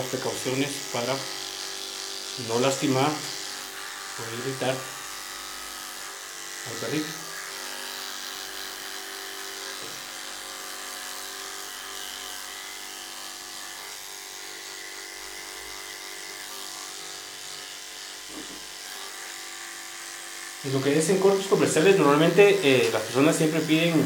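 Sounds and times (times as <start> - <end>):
electric clipper humming: 0.0 - 24.0.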